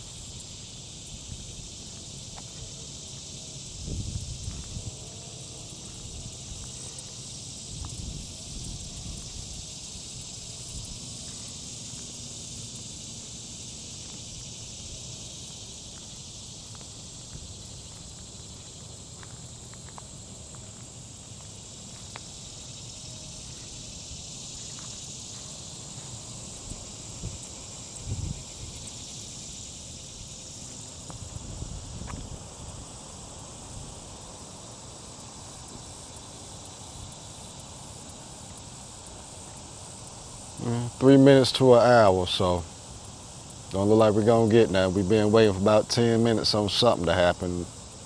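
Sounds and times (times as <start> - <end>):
insect chorus drone: 0.0 - 48.0.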